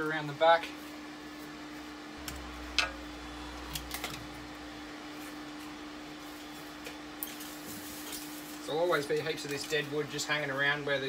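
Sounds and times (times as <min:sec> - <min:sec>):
steady low hum: 0:00.8 - 0:11.0.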